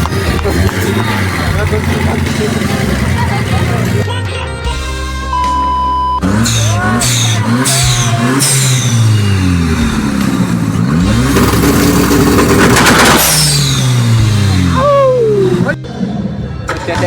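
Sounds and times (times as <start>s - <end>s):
car engine revving: 0.0s - 4.1s, 5.4s - 17.0s.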